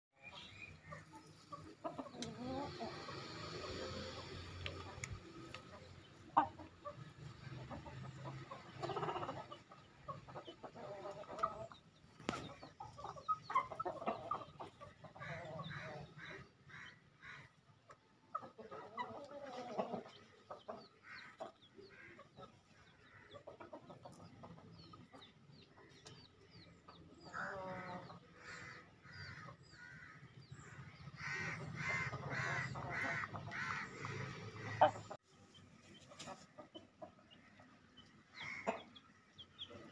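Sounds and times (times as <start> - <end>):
roosters clucking: 0.2 - 39.9.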